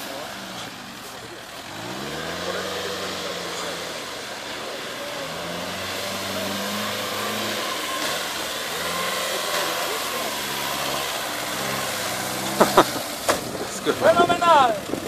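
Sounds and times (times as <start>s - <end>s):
car engine pulling under load: 0.0s - 15.0s.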